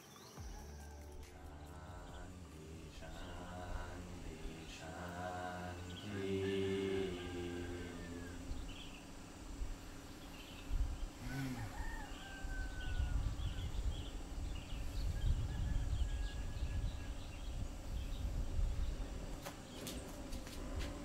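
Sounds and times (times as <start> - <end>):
birds chirping and whistling: 0.0 - 21.0
low rumble: 0.4 - 21.0.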